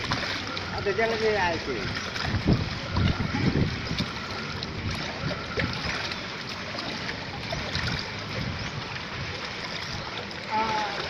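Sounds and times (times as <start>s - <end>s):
floodwater flowing and splashing: 0.0s - 11.0s.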